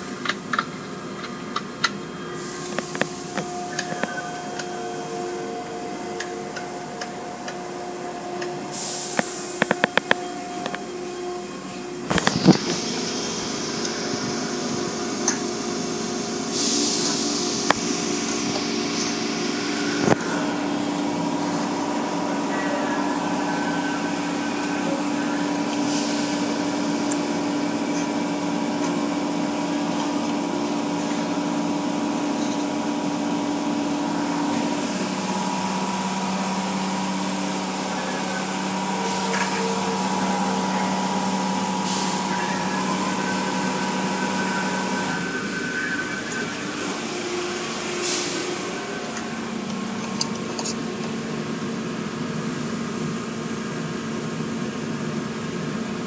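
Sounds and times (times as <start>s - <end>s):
car wash machinery humming: 0.0s - 56.0s.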